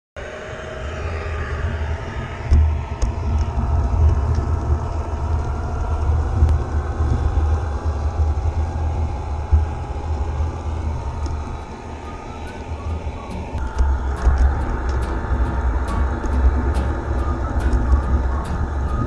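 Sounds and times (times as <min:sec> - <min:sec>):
model train rumbling through snow: 0:03.1 - 0:19.0.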